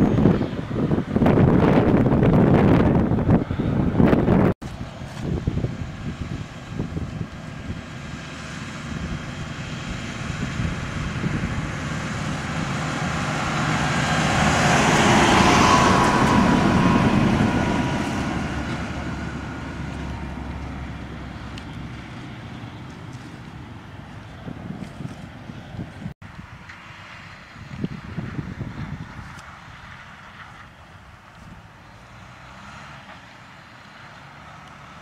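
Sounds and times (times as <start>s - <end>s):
forage harvester driving past: 0.0s - 35.0s.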